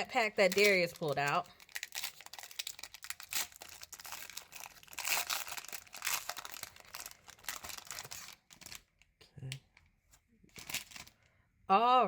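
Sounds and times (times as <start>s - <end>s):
foil wrapper crinkling and tearing: 0.0s - 9.1s, 10.5s - 11.3s.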